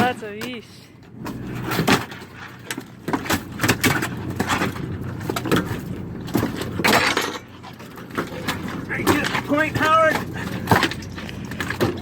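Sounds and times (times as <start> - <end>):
low engine hum: 0.0 - 12.0
sharp knocks and clatter: 1.2 - 12.0.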